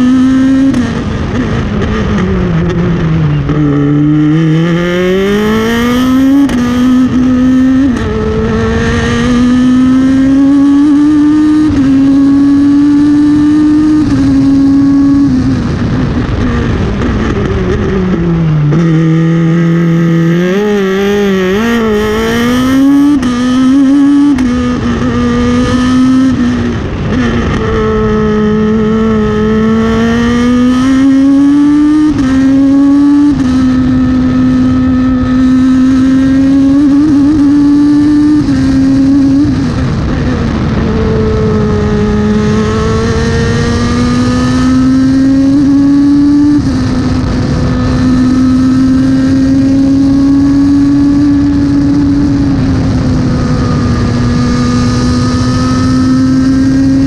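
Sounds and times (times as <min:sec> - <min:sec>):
race car engine revving through gears: 0:00.0 - 0:57.0.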